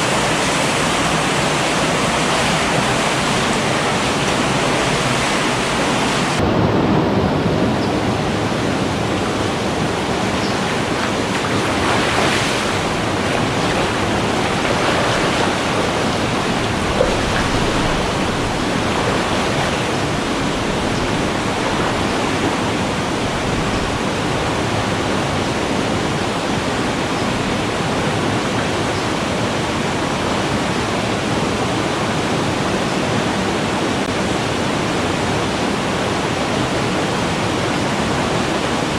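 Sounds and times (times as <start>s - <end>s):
creek water rushing: 0.0s - 6.4s, 8.0s - 38.9s.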